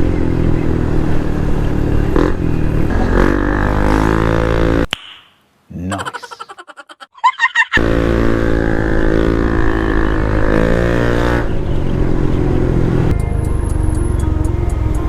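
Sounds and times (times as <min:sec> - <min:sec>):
scooter engine running: 0:00.0 - 0:04.9, 0:07.8 - 0:15.0.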